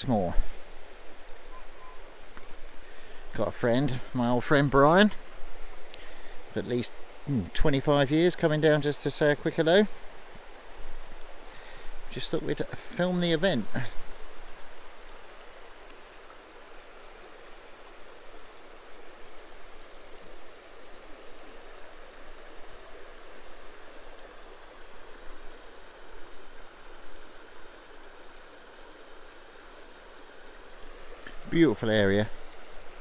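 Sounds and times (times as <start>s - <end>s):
water rushing over stones: 0.0s - 33.0s.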